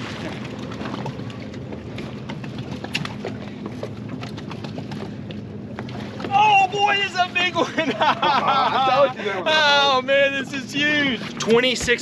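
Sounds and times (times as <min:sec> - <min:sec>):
boat engine hum: 0:00.0 - 0:12.0
water and wind noise: 0:00.0 - 0:12.0.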